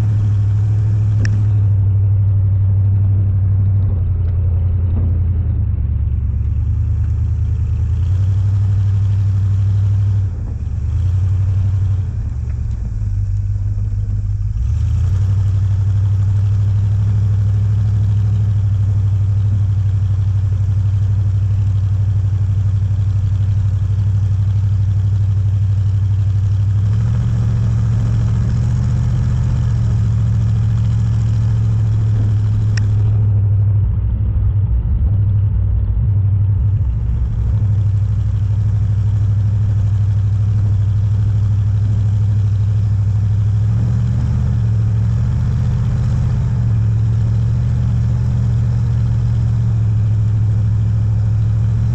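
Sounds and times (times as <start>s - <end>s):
off-road vehicle engine droning: 0.0s - 51.9s.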